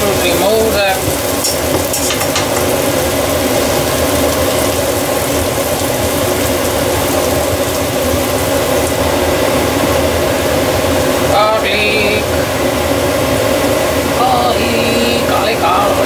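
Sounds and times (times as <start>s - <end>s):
onions frying in oil: 0.0s - 16.0s
steady mechanical hum: 0.0s - 16.0s.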